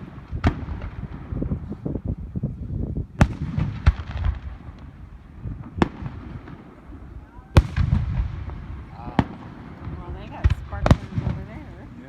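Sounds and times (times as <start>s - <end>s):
sharp firework bangs: 0.0s - 2.2s, 3.1s - 11.8s
fireworks booms and crackle: 0.0s - 12.0s.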